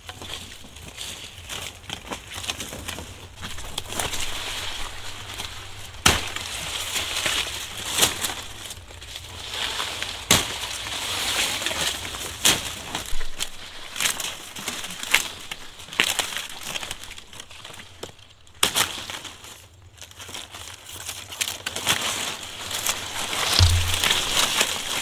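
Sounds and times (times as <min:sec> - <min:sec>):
cane stalks cracking: 0:00.0 - 0:25.0
dry leaves rustling: 0:00.0 - 0:25.0.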